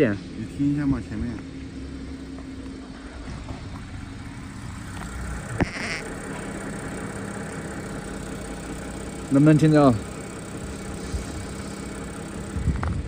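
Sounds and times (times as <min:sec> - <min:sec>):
car engine idling: 0:00.0 - 0:13.0
engine ticking: 0:00.0 - 0:13.0.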